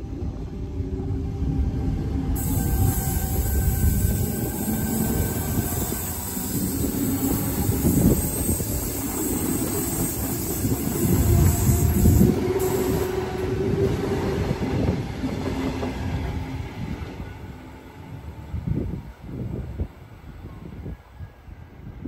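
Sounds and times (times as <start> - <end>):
train wheels rumbling on rails: 0.0 - 20.9
train whine: 0.0 - 22.0.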